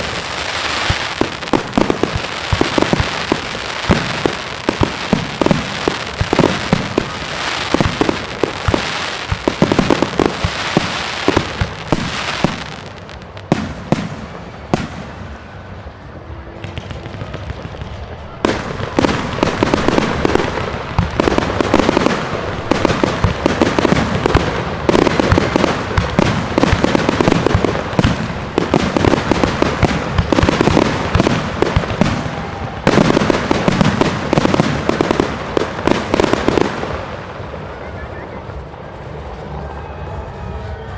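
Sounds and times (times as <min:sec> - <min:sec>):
fireworks crackling and banging: 0:00.0 - 0:40.8.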